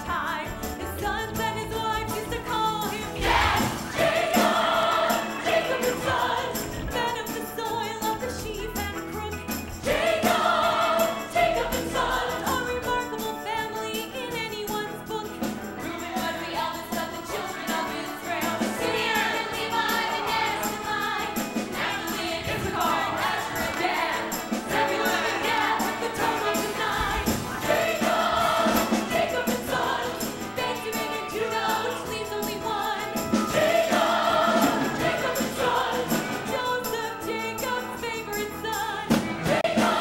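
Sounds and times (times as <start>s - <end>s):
instrumental accompaniment: 0.0s - 40.0s
ensemble singing in chorus: 0.9s - 8.1s, 9.8s - 13.0s, 15.8s - 40.0s.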